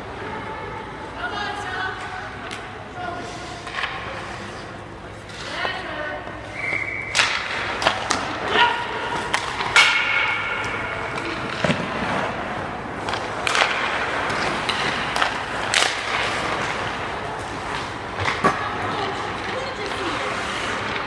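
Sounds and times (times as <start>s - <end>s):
background din in echoing room: 0.0s - 21.0s.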